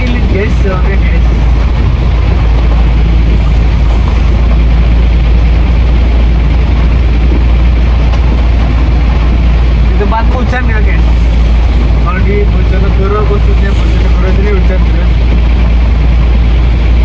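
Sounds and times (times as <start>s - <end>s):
truck diesel engine rumble: 0.0s - 17.0s.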